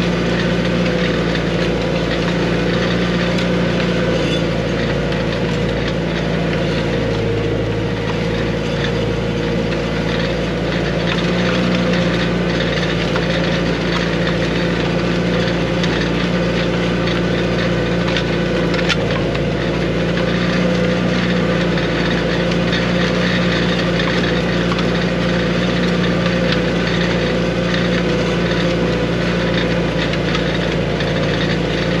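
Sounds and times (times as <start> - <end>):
tractor engine running under load: 0.0 - 32.0.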